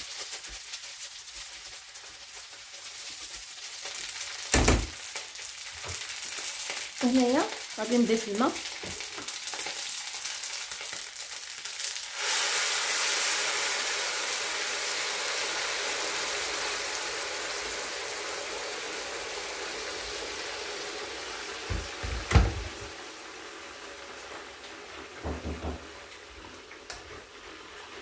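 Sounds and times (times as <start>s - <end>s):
water sizzling in hot pan: 0.0s - 28.0s.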